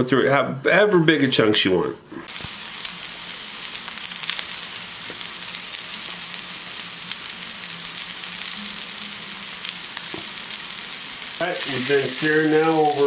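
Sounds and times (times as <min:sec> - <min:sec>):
food sizzling in a skillet: 0:02.2 - 0:13.0.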